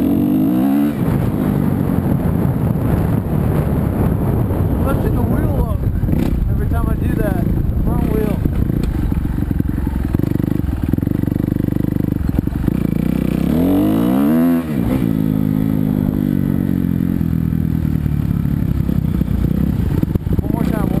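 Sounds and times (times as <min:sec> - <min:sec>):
motocross bike engine revving: 0:00.0 - 0:02.2, 0:06.0 - 0:21.0.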